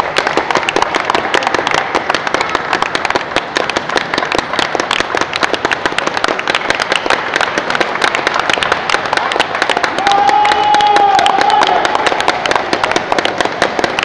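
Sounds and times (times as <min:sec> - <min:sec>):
people applauding: 0:00.0 - 0:14.0.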